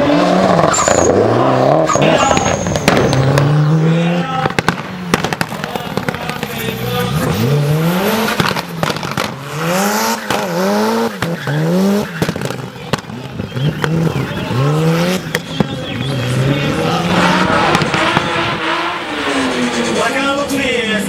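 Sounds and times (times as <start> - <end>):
engine bangs: 0.0 - 21.0
race engine revving: 0.0 - 21.0.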